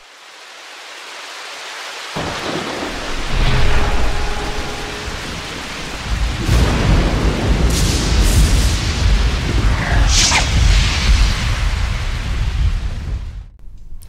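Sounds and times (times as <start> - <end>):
rain falling: 0.0 - 13.5
thunder rumbling: 2.2 - 13.5.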